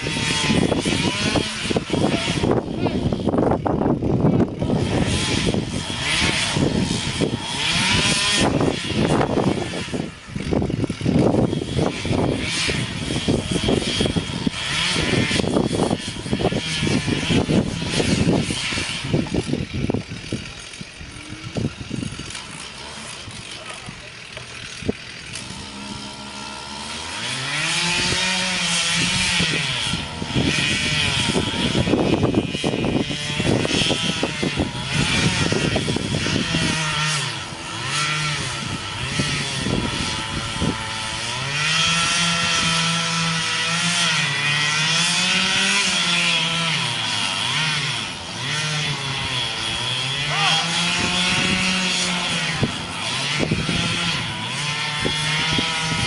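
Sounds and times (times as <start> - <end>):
chainsaw revving and cutting: 0.0 - 56.0.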